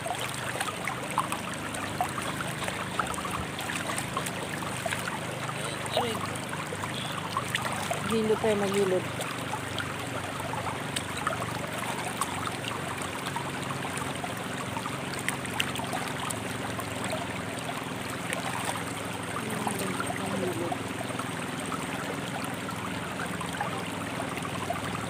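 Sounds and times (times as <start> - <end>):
river water flowing over rocks: 0.0 - 25.0.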